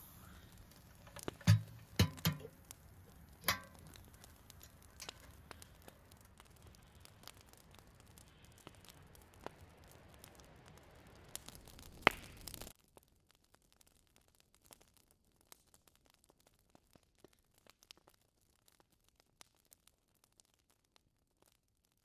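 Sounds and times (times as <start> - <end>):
low fire hiss: 0.0 - 22.0
wood fire crackling: 0.0 - 22.0.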